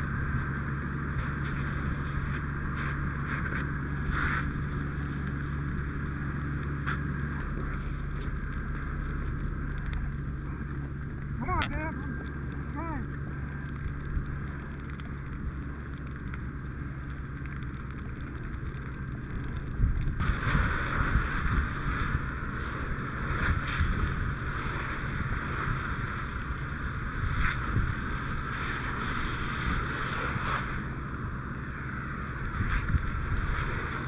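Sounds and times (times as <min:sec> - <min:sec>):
constant low rumble: 0:00.0 - 0:34.0.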